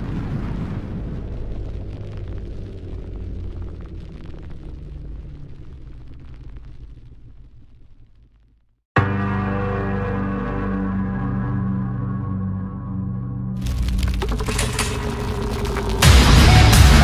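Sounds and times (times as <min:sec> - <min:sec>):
deep rumble with crackling: 0:00.0 - 0:09.0, 0:11.8 - 0:17.0.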